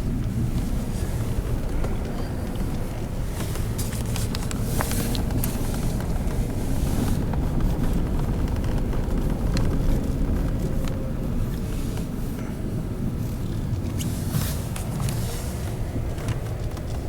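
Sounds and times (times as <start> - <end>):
truck engines rumbling: 0.0 - 17.0.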